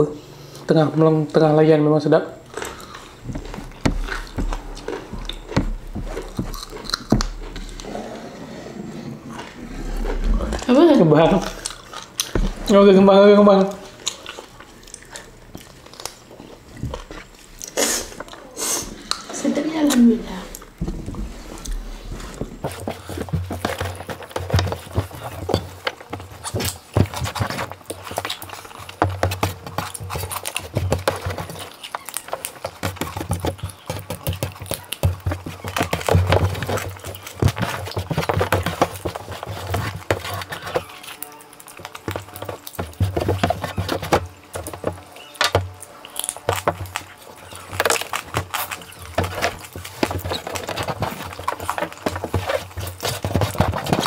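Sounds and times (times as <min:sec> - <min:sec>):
people chewing and lip-smacking: 0:02.4 - 0:12.8, 0:13.6 - 0:20.8, 0:21.5 - 0:54.0.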